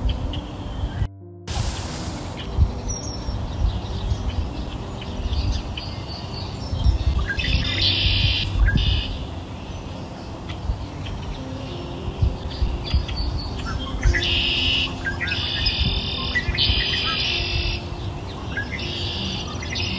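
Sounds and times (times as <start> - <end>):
birds chirping and calling: 2.4 - 19.9.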